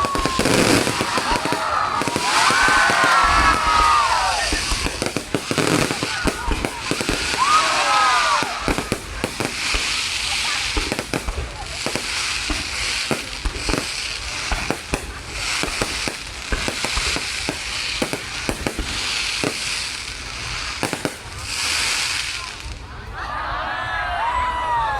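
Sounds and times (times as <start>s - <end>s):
fireworks bangs: 0.0s - 23.1s
crackling hiss of fireworks: 0.0s - 24.9s
crowd voices and cheering: 0.0s - 24.9s.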